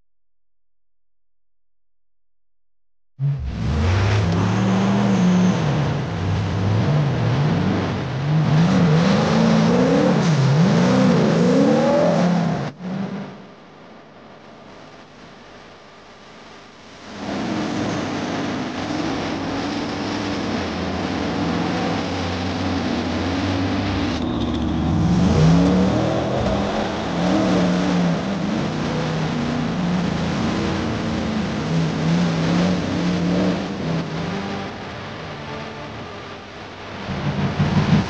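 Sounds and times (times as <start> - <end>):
buggy engines revving: 3.2 - 13.3, 17.2 - 38.0.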